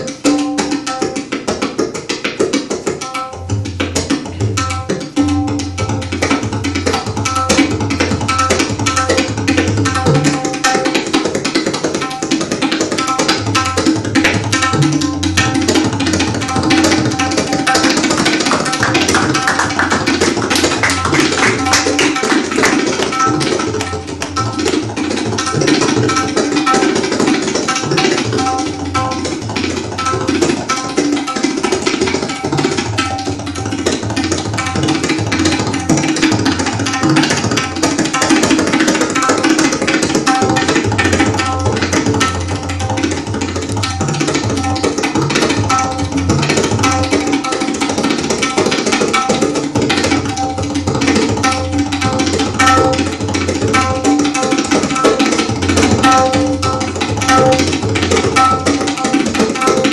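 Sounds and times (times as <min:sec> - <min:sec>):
ringing tabla strokes: 0:00.0 - 0:59.9.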